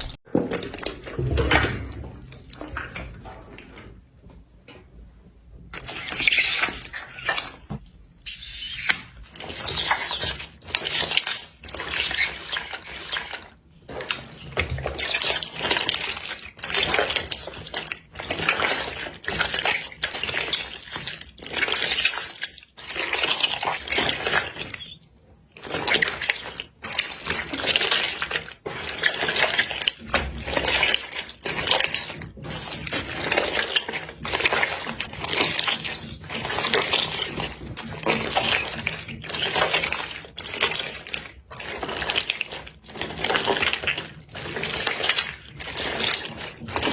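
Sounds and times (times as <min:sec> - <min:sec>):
slime squishing and popping: 0:05.8 - 0:46.9.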